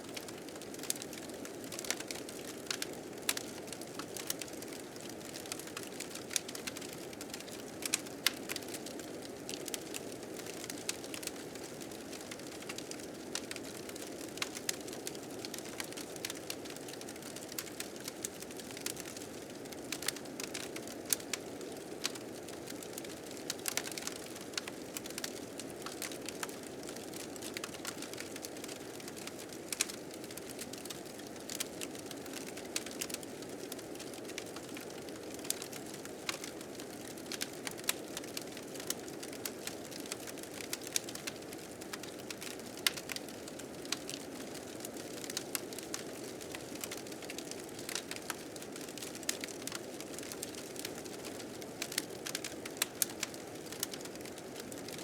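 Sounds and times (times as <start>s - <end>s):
fire crackling: 0.1s - 54.9s.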